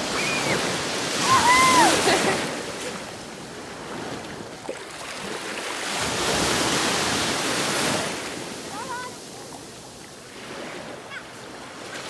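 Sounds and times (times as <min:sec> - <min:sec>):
sea surf washing in: 0:00.0 - 0:12.0.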